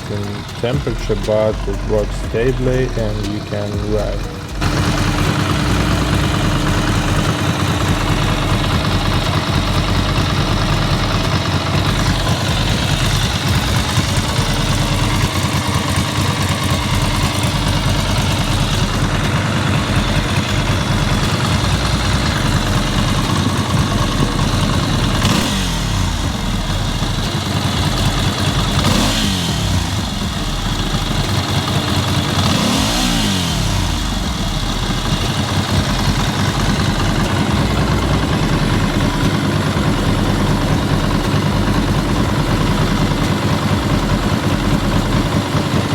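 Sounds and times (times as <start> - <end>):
motorcycle engine idling and revving: 0.0 - 45.9.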